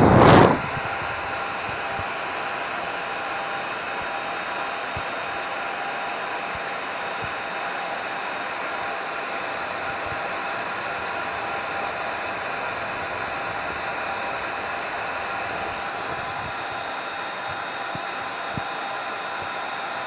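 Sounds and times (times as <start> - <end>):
faint motor whine: 0.0 - 20.0
hair dryer blowing air: 0.0 - 20.0.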